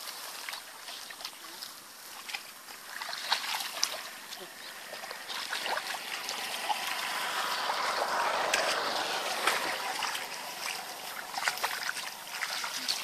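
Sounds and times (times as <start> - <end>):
small splats: 0.0 - 13.0
water splashing and trickling: 0.0 - 13.0.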